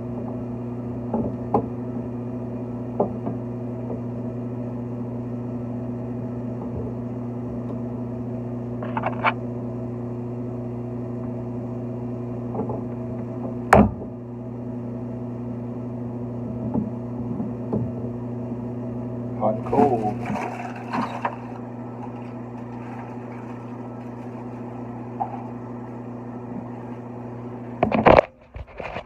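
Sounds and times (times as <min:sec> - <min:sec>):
motor hum: 0:00.0 - 0:29.0.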